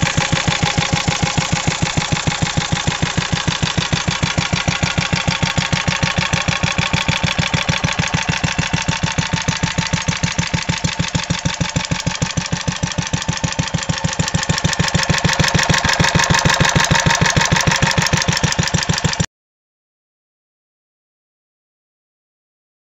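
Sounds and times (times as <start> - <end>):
stationary engine running: 0.0 - 19.3.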